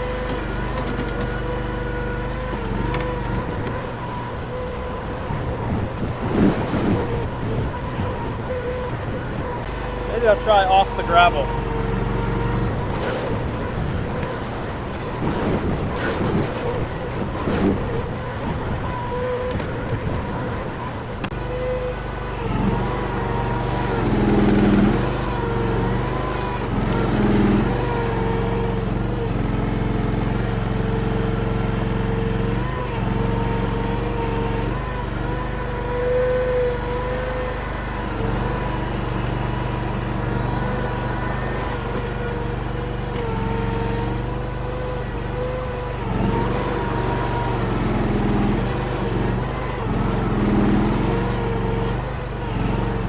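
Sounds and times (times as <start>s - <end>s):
small engine under load: 0.0s - 53.0s.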